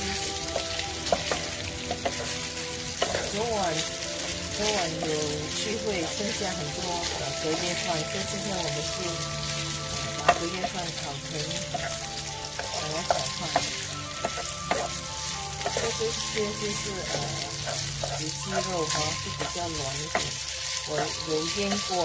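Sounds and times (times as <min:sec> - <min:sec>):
meat sizzling in frying pan: 0:00.0 - 0:22.0.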